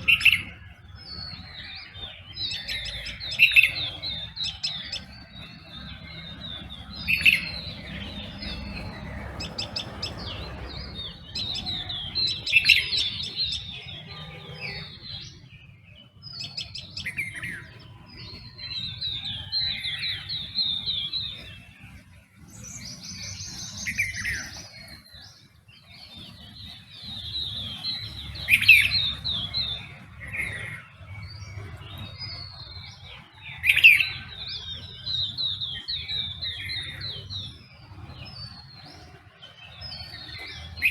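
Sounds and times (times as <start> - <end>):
birds singing in dawn chorus: 0.0 - 40.9
sharp bird calls: 0.0 - 40.9.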